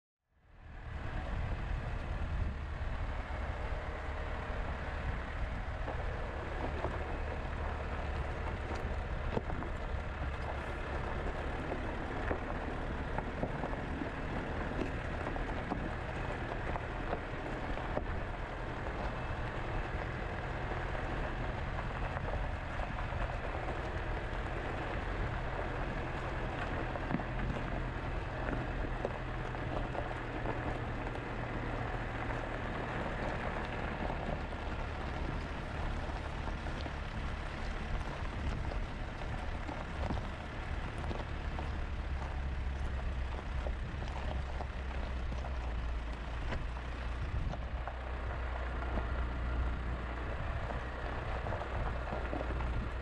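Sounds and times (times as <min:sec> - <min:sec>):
truck engine rumble: 0:00.3 - 0:53.0
tyres crackling on gravel: 0:00.6 - 0:53.0.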